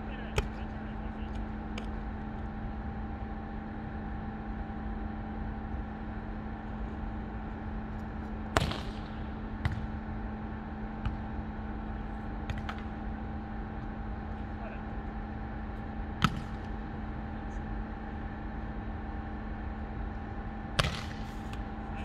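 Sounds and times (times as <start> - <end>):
steady hum with held tones: 0.0 - 22.0.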